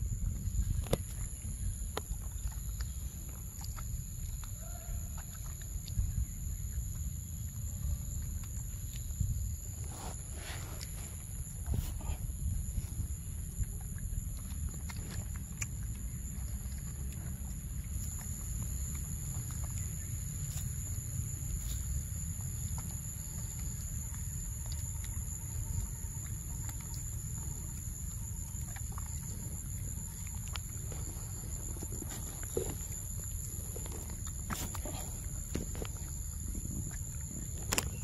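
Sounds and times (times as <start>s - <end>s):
monkey chewing fruit: 0.1s - 38.0s.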